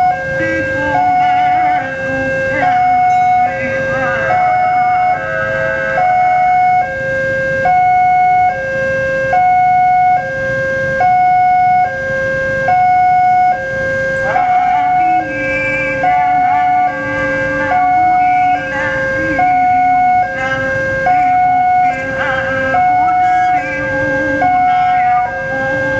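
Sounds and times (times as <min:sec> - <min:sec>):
two-tone level crossing alarm: 0:00.0 - 0:25.9.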